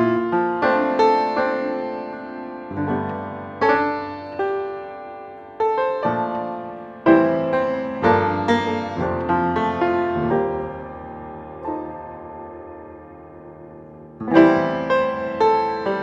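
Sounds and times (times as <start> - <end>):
slow jazz piano chords: 0.0 - 16.0.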